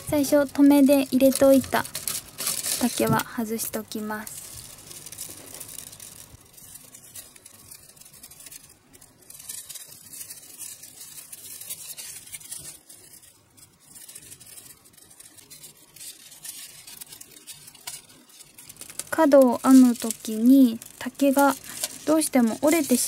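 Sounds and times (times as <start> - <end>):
bamboo strips rustling and scraping: 0.0 - 23.0.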